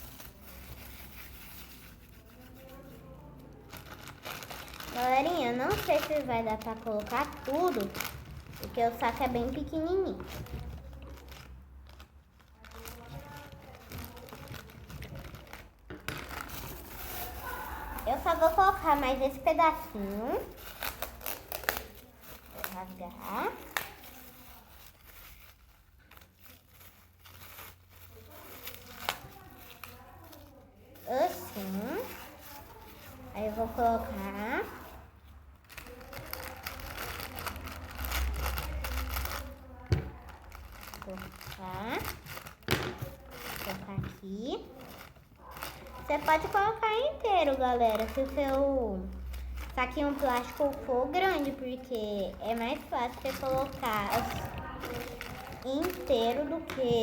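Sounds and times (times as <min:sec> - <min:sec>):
plastic bags crinkling: 0:00.0 - 0:57.0.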